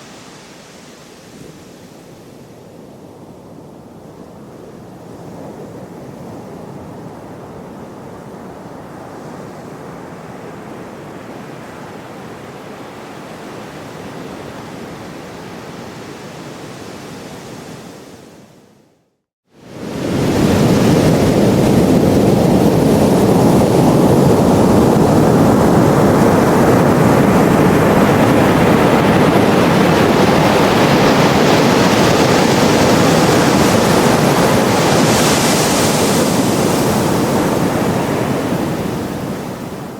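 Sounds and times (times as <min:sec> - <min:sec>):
sea waves washing on shore: 0:00.0 - 0:18.5, 0:19.6 - 0:39.9.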